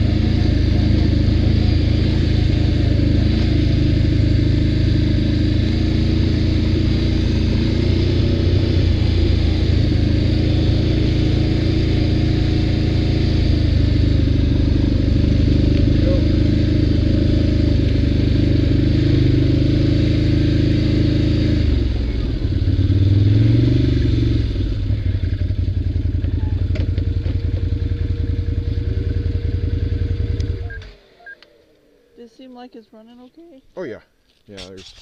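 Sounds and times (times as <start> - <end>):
atv engine running and revving: 0.0 - 32.8.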